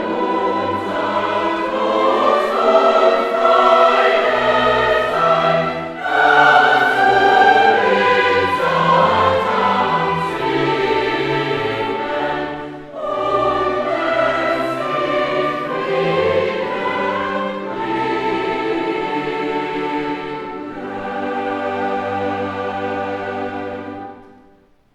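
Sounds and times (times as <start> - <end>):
choir singing: 0.0 - 24.7.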